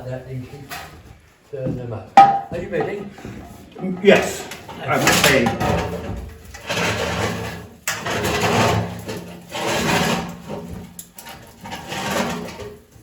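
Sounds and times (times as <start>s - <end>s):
metal pipe scraping and rattling: 2.2s - 13.0s.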